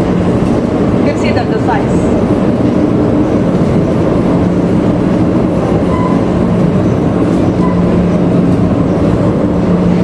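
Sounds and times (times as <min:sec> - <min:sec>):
machinery rumbling: 0:00.0 - 0:10.0.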